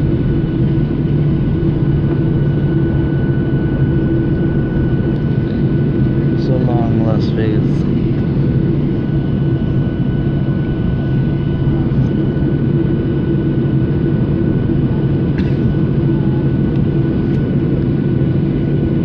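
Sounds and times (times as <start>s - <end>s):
jet engines humming with whine: 0.0s - 19.0s.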